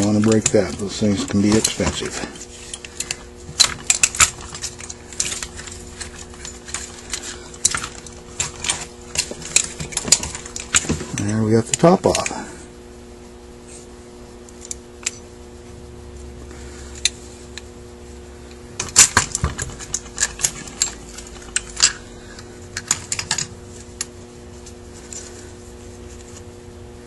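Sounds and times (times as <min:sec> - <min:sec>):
faint clicks of handling metal part: 0:00.0 - 0:12.4, 0:14.5 - 0:15.3, 0:16.9 - 0:17.7, 0:18.4 - 0:26.5
steady background hum: 0:00.0 - 0:27.0.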